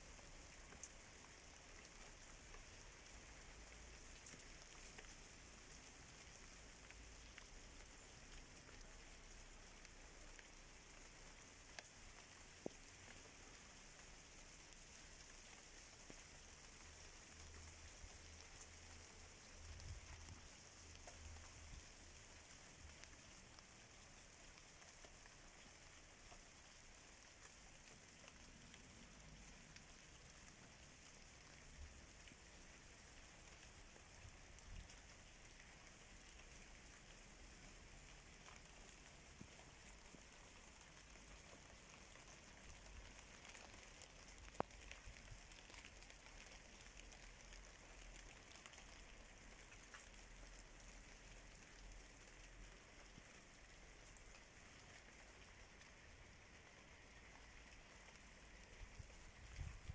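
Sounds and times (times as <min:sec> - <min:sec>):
rain pattering on plants and tiles: 0:00.0 - 0:59.9.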